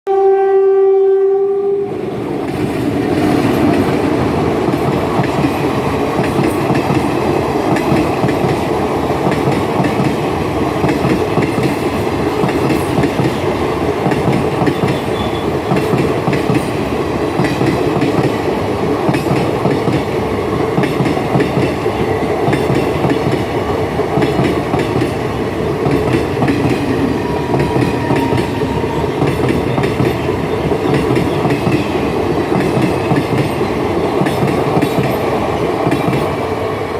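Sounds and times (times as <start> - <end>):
train wheels rumbling on rails: 1.8 - 36.9.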